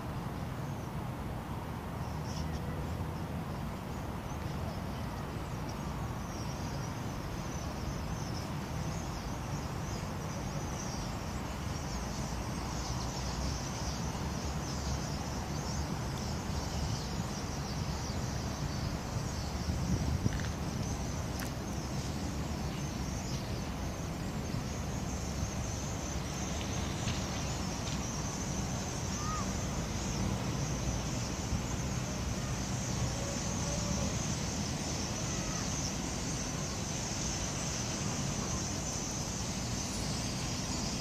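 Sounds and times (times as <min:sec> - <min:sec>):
flock of birds chattering: 0:04.3 - 0:41.0.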